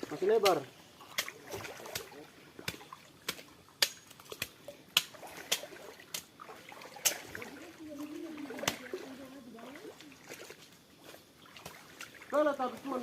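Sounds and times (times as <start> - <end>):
paddle splashing: 0.0 - 13.0
water trickling and sloshing: 0.0 - 13.0.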